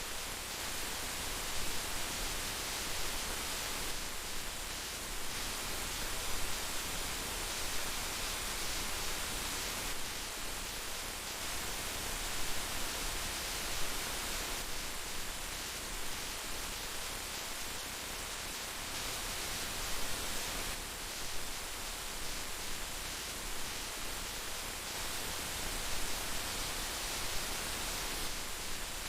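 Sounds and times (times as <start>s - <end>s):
heavy rain: 0.1s - 29.0s.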